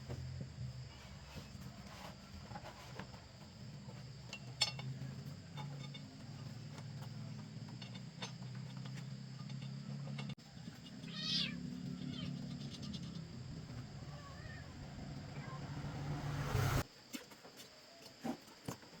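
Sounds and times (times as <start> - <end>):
faint low hum: 0.0 - 16.8.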